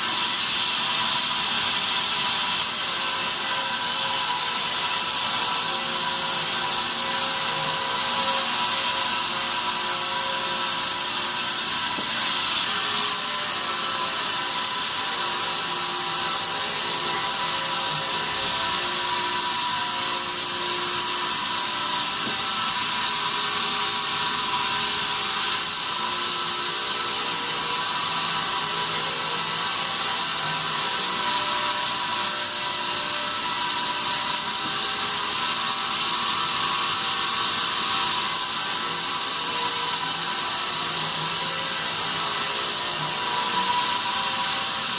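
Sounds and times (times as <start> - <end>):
band saw cutting wood: 0.0 - 44.9.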